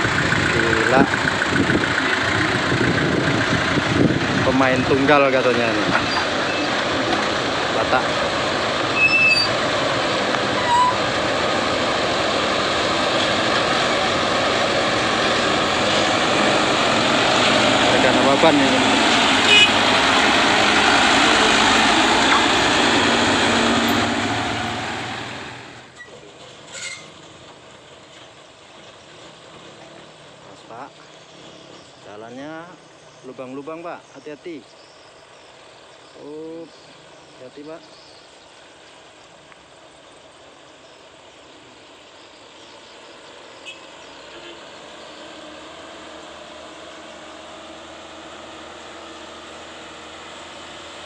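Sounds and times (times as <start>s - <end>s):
diesel truck passing on dirt road: 0.0s - 51.0s.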